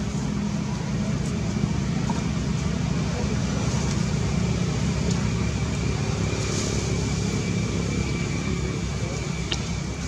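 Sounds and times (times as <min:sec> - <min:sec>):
faint high whine: 0:00.0 - 0:10.0
low rumbling background noise: 0:00.0 - 0:10.0.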